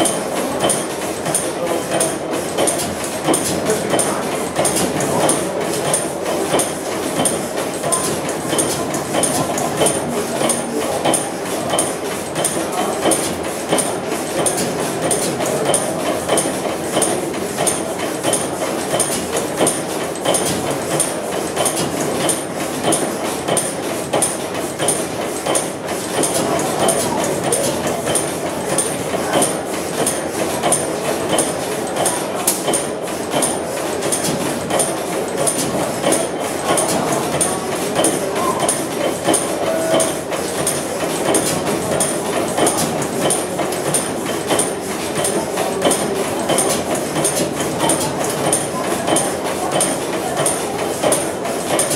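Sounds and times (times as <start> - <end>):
stationary engine clattering: 0.0 - 51.9.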